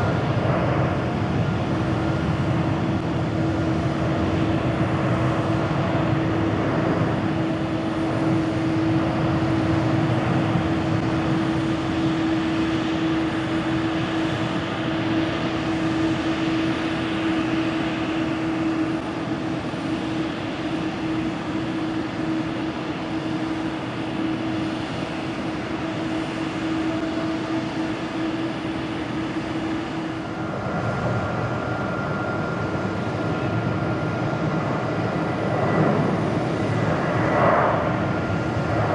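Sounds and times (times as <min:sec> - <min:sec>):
jet engines at takeoff thrust: 0:00.0 - 0:38.9
jet engines whining: 0:00.0 - 0:38.9.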